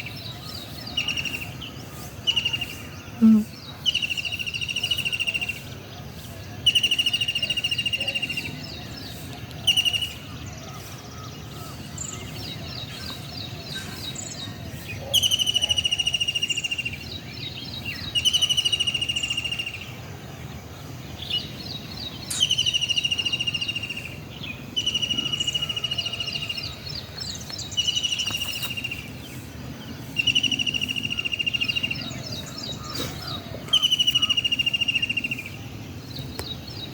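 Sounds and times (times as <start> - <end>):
rapid bird trills: 0.0 - 20.0, 21.4 - 35.7.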